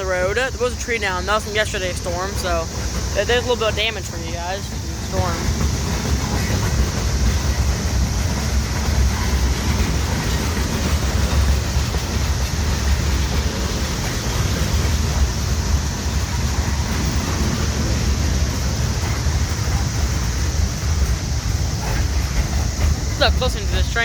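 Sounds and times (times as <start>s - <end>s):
train wheels rolling on rail: 0.0s - 24.0s.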